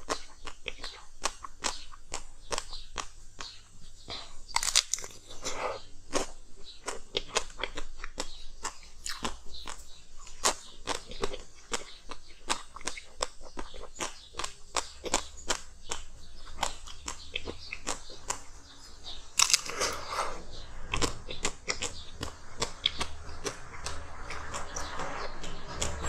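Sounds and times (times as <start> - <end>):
ice crunching while chewed: 0.0 - 3.6, 4.2 - 18.6, 19.3 - 26.0.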